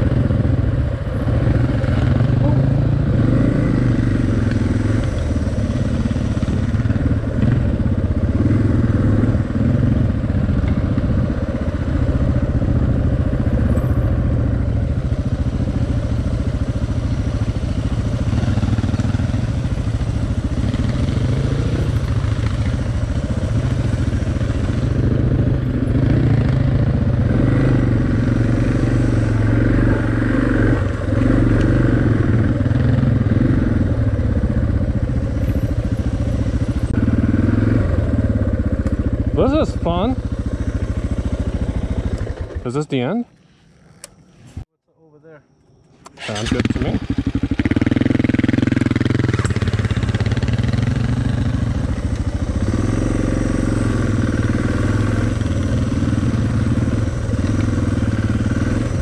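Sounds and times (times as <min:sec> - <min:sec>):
motorcycle engine running: 0:00.0 - 0:44.7, 0:46.2 - 0:59.0.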